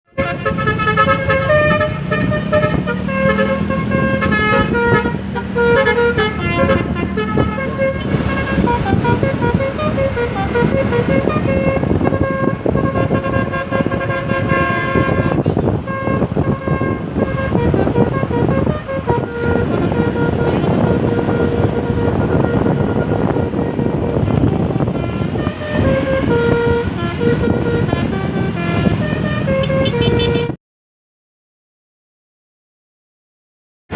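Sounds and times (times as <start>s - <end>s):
bus horn playing a fast tune: 0.1s - 30.6s.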